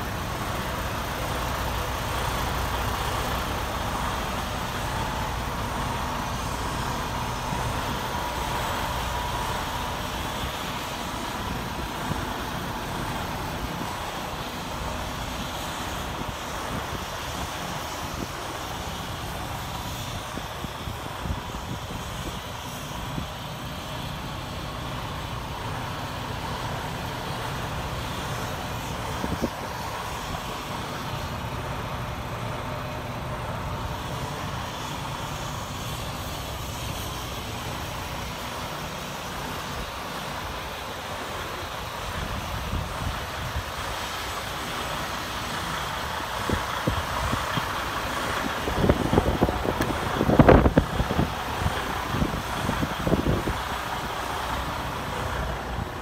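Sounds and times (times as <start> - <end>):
low vehicle rumble: 0.0 - 56.0.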